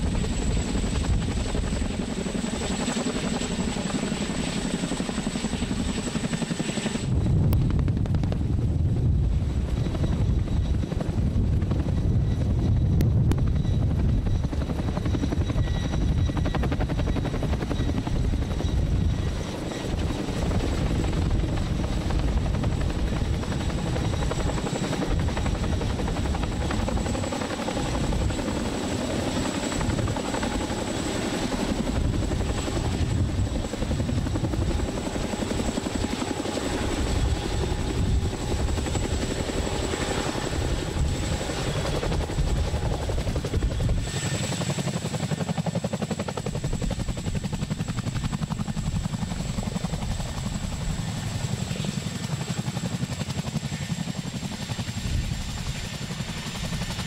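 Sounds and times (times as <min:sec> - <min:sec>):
helicopter rotor and engine noise: 0:00.0 - 0:57.0.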